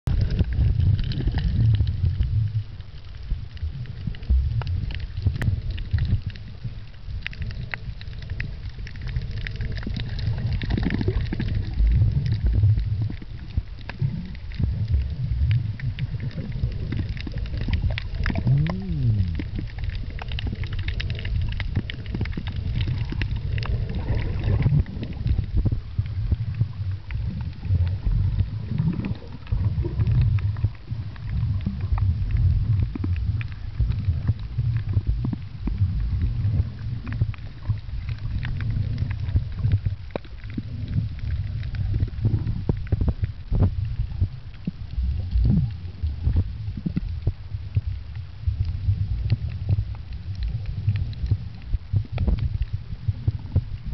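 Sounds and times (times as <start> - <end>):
underwater clicks and crackle: 0.0 - 53.9
underwater rumble of moving water: 0.0 - 53.9.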